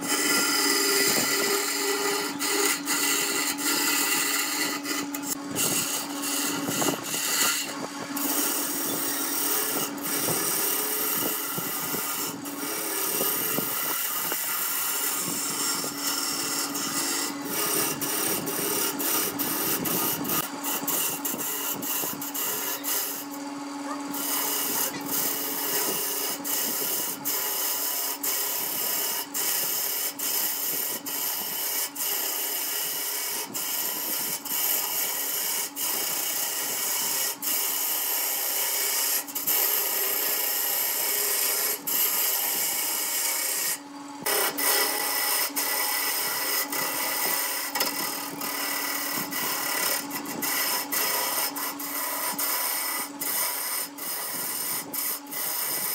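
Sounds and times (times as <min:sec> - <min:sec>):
turning tool scraping wood: 0:00.0 - 0:55.9
wood lathe whine: 0:00.0 - 0:55.9.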